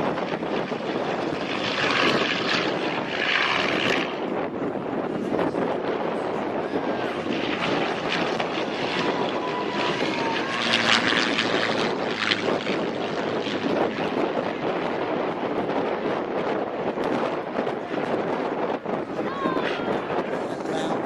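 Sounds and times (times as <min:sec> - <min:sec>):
propeller airplane engine droning: 0:00.0 - 0:21.0.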